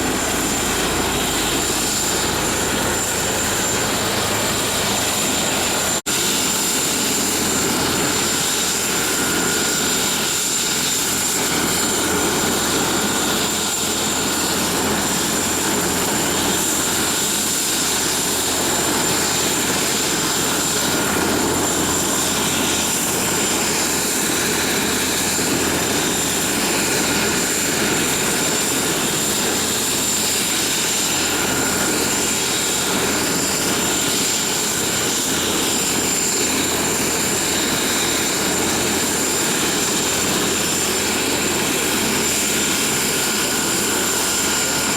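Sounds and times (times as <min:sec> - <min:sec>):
helicopter rotor noise: 0:00.0 - 0:44.9
helicopter turbine whine: 0:00.0 - 0:44.9.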